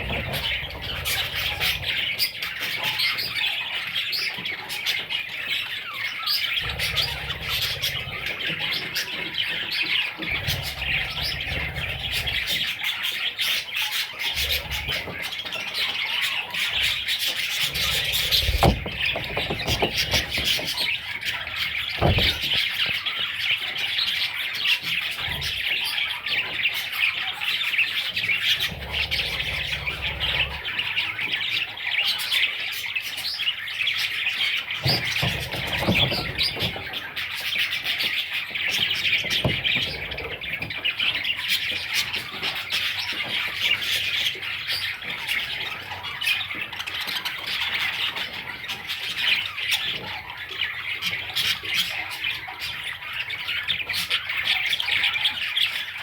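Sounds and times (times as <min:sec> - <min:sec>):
bird chicks chirping and squawking: 0:00.0 - 0:56.0.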